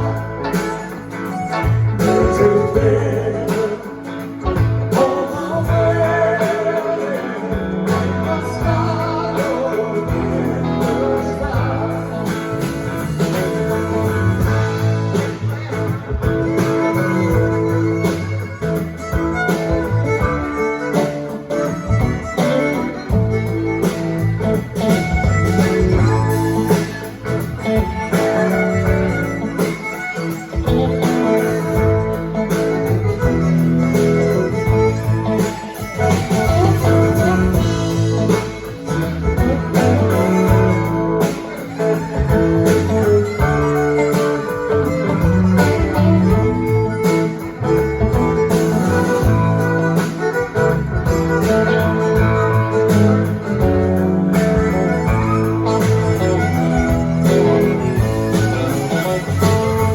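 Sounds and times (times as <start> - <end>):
bowed fiddle-like melody: 0.0 - 59.9
strummed guitar: 0.0 - 59.9.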